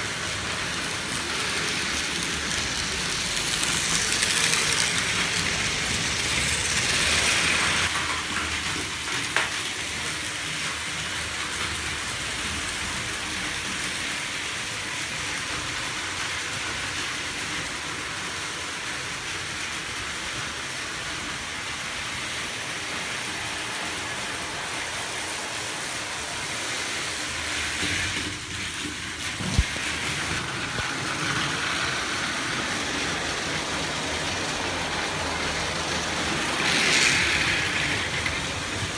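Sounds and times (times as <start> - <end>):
toy train motor whirring: 0.0 - 38.9.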